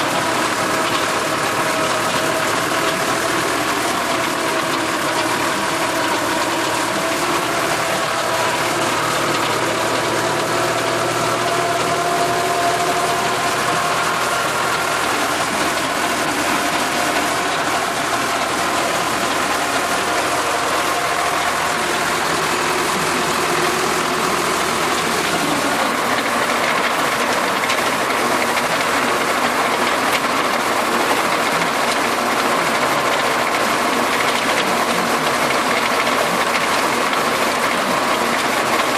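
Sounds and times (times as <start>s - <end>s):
rotary tiller clatter: 0.0s - 38.9s
tractor engine under load: 0.0s - 38.9s.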